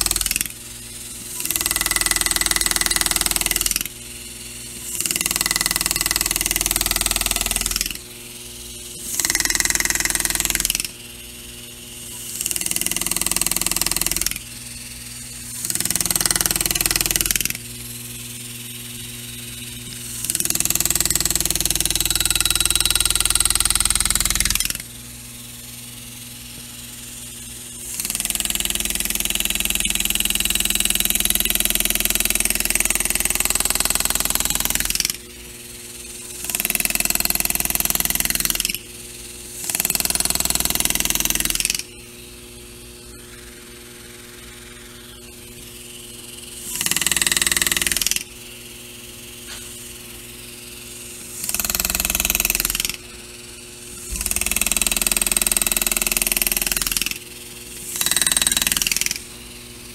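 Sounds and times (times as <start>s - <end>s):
air-powered engraver hammering metal: 0.0s - 59.9s
steady low hum: 0.0s - 59.9s.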